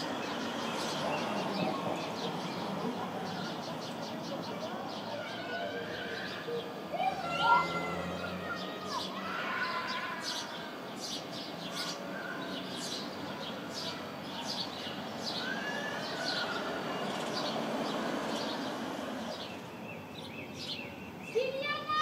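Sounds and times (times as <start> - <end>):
outdoor background hiss: 0.0 - 22.0
sparrows chirping: 0.0 - 22.0.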